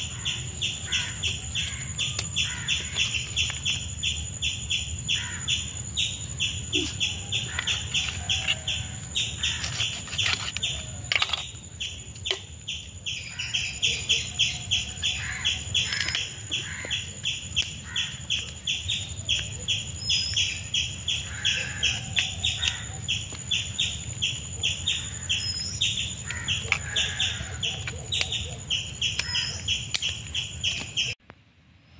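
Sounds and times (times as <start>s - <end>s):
birds chirping: 0.0s - 31.2s.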